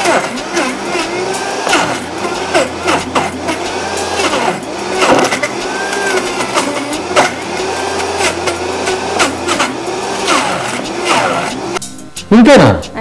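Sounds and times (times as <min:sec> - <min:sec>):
blender motor running: 0:00.0 - 0:11.8.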